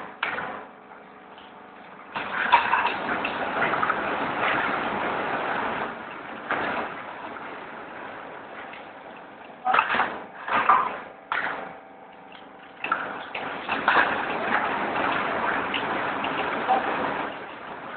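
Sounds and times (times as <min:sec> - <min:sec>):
roll forming machine hissing: 0:02.2 - 0:11.6, 0:12.9 - 0:17.9.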